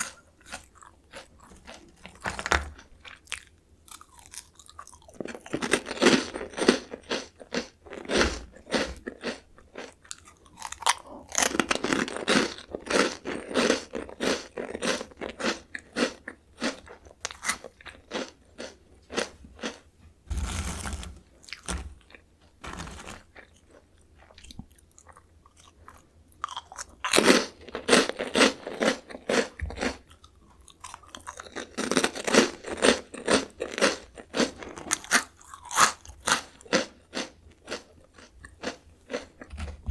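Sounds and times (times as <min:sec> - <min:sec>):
crunching and chewing snack: 0:00.0 - 0:39.9.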